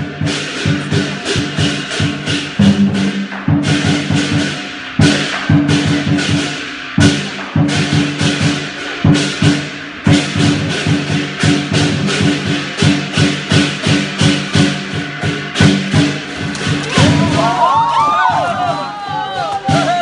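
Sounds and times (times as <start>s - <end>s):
cymbals clashing: 0.0s - 20.0s
drum beating rapidly: 0.0s - 20.0s.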